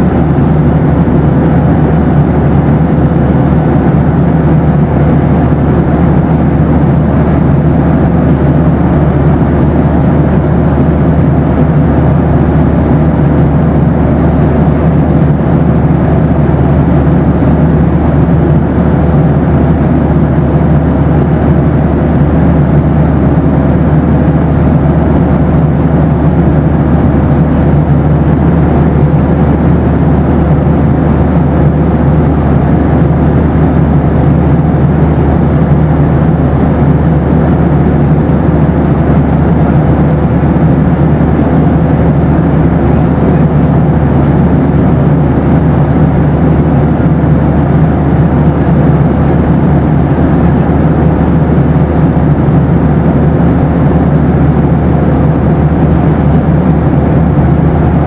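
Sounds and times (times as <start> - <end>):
airliner engines rumbling: 0.0 - 58.0
faint steady whine: 0.0 - 58.0.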